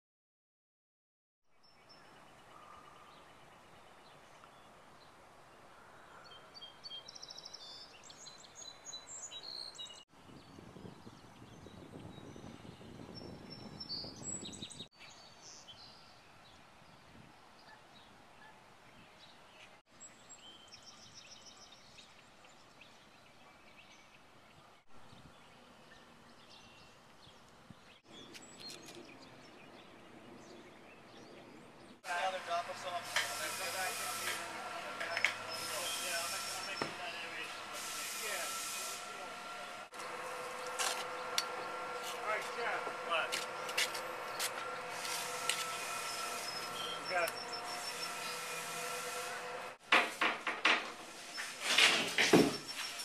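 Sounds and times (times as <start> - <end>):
songbirds chirping: 1.5 - 49.6.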